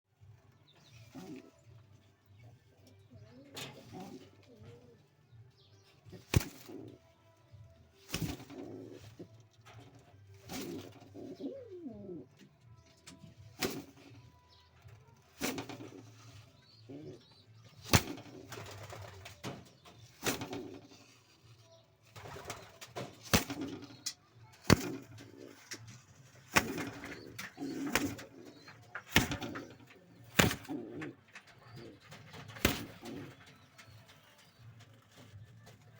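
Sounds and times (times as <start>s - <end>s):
pigeons cooing: 0.7s - 5.2s, 6.0s - 7.4s, 8.1s - 12.4s, 15.3s - 34.6s.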